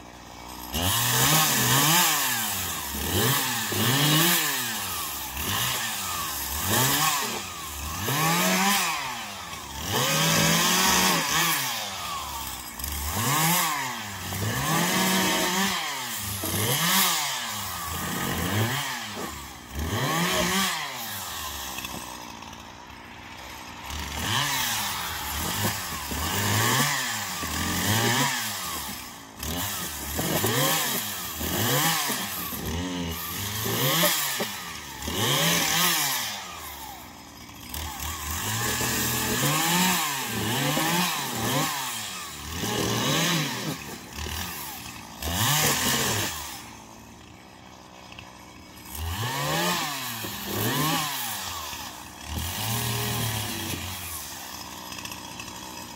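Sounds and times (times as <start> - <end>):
chainsaw revving: 0.0 - 55.9.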